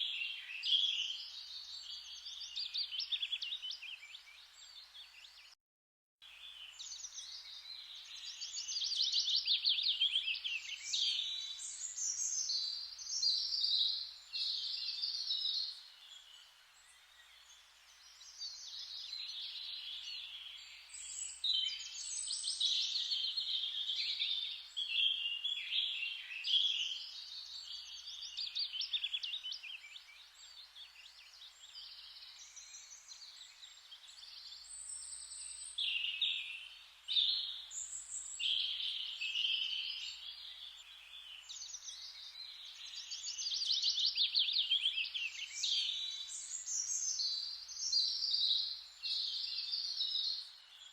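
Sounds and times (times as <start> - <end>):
songbirds singing: 0.0 - 5.6, 6.2 - 50.9
soft steady hiss: 6.2 - 50.9.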